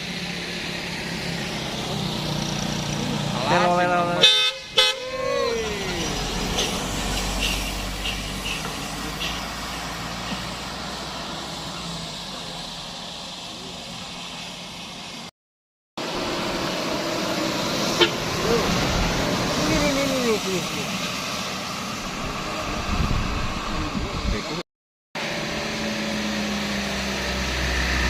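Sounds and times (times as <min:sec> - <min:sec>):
heavy vehicle engine and road noise: 0:00.0 - 0:15.3, 0:16.0 - 0:24.6, 0:25.2 - 0:28.0.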